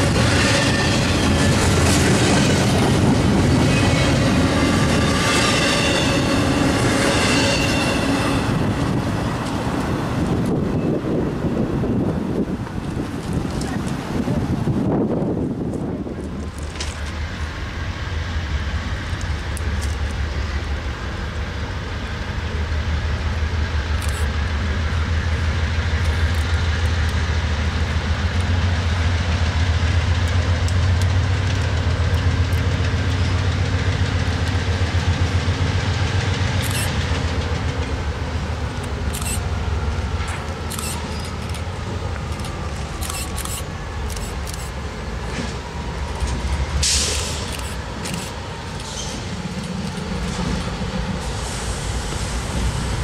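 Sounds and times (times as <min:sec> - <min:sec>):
diesel locomotive engine rumble: 0:00.0 - 0:53.0.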